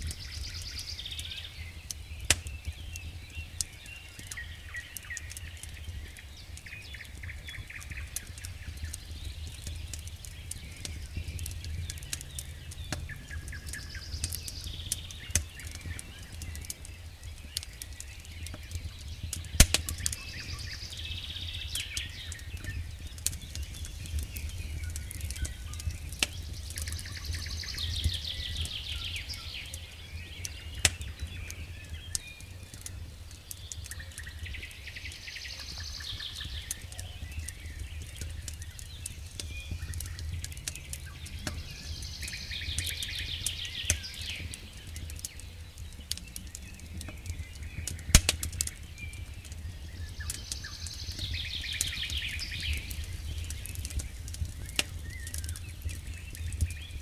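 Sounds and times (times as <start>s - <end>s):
birds singing: 0.0s - 57.0s
campfire crackling and popping: 0.0s - 57.0s.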